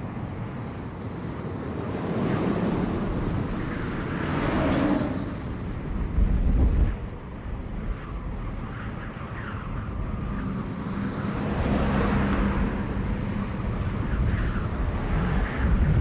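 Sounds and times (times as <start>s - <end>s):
rushing fly-by noise: 0.0s - 16.0s.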